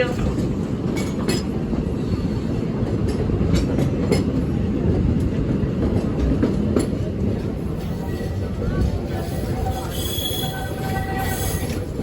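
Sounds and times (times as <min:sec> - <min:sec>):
rail joint clicks: 0:00.0 - 0:12.0
train wheels rumbling on track: 0:00.0 - 0:12.0.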